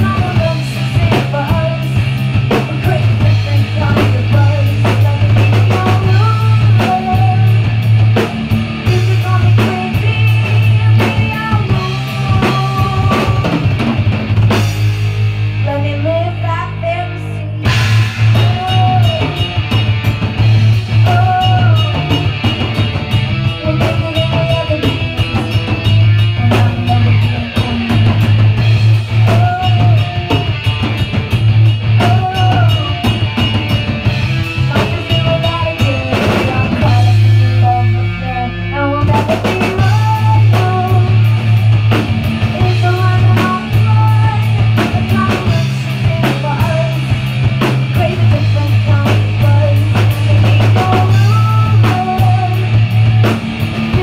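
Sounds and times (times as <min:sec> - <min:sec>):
drum kit: 0:00.0 - 0:54.0
electric guitar playing: 0:00.0 - 0:54.0
low bass line: 0:00.0 - 0:54.0.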